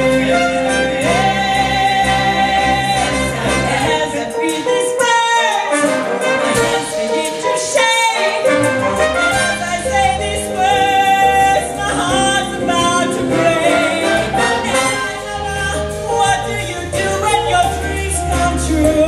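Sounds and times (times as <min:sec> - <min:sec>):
live salsa band playing: 0:00.0 - 0:19.0.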